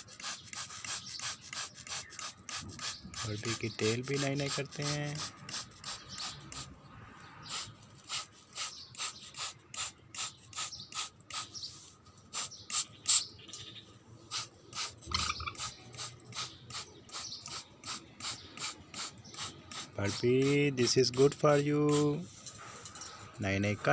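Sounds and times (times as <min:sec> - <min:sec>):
spray bottle hissing: 0:00.0 - 0:06.7, 0:07.4 - 0:13.3, 0:14.3 - 0:22.2.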